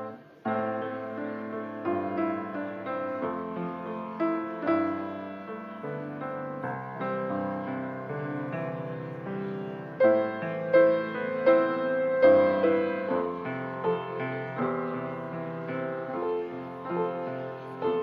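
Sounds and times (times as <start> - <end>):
piano playing gentle chords: 0.0 - 18.0.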